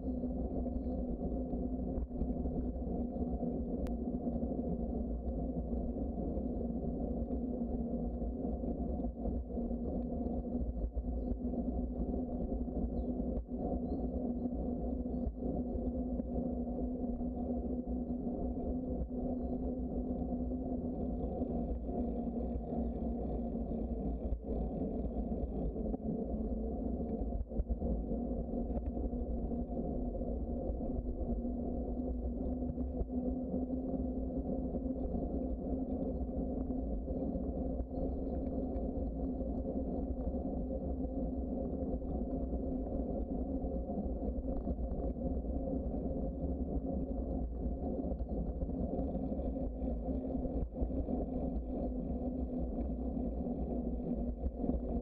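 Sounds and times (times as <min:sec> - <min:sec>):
constant low hum: 0:00.0 - 0:55.0.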